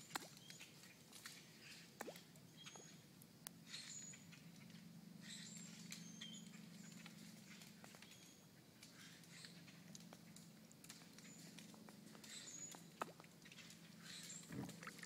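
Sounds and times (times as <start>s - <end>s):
light ticks and patters: 0.0s - 15.0s
low steady hum: 0.0s - 15.0s.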